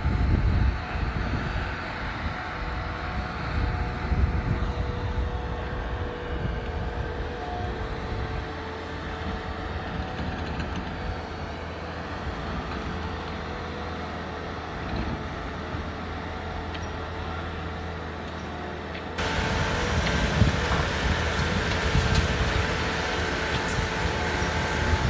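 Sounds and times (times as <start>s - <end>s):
boat hoist engine drone: 0.0s - 25.0s
constant whine: 0.0s - 25.0s.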